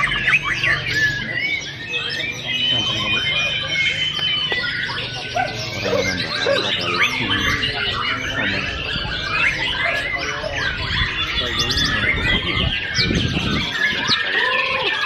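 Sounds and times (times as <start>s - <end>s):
other birds singing: 0.0s - 15.0s
songbird singing whistles and chirps: 0.0s - 15.0s.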